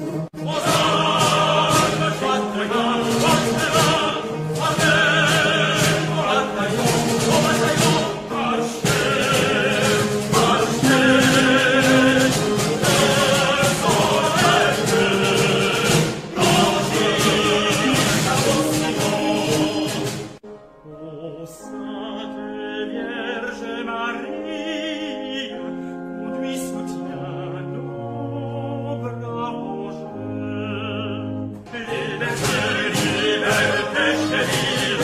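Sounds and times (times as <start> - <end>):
orchestral anthem with operatic singing: 0.0 - 35.0.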